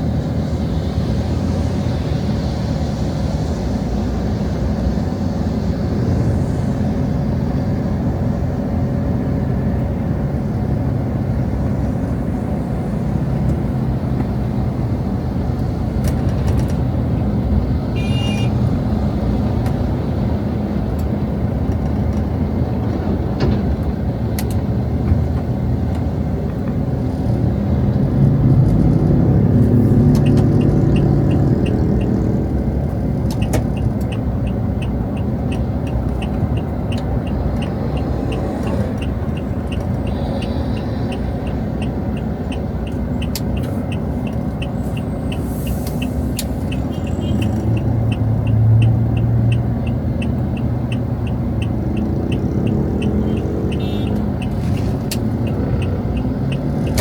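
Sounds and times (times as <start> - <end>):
road traffic rumbling: 0.0 - 57.0.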